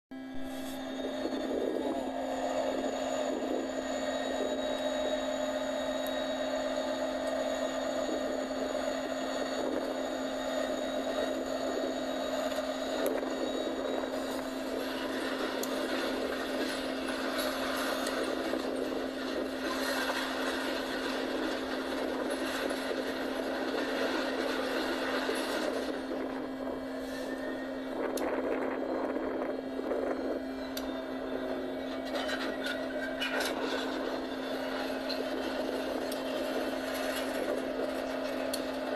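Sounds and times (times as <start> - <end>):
train mechanical hum: 0.1 - 38.9.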